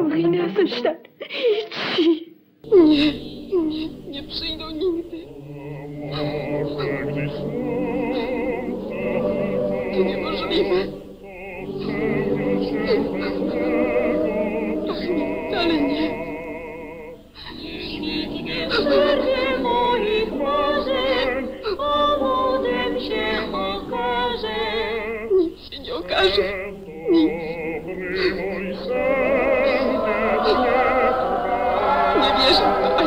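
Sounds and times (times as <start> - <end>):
slow orchestral music with voices: 2.6 - 33.0.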